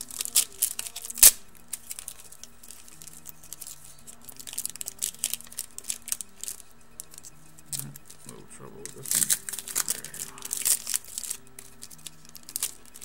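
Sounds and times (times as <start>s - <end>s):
wrapper snapping: 0.0s - 8.2s, 8.8s - 13.0s
wrapper tearing and crinkling: 0.0s - 8.2s, 8.8s - 13.0s.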